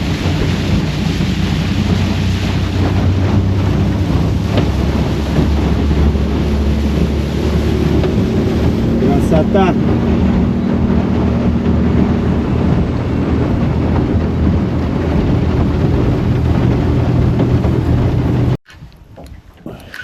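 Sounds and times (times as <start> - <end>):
boat motor running: 0.0 - 18.6
wind on microphone: 0.0 - 20.0.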